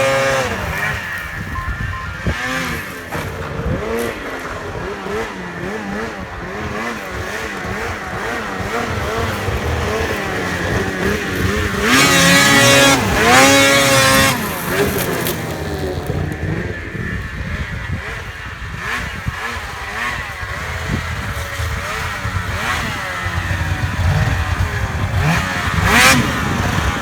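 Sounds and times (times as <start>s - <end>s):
snowmobile engine revving: 0.0s - 27.0s.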